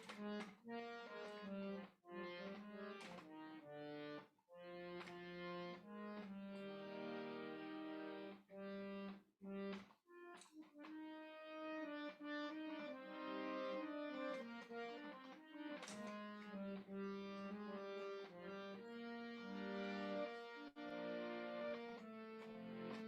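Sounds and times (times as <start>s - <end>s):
harmonium chords: 0.0s - 23.0s.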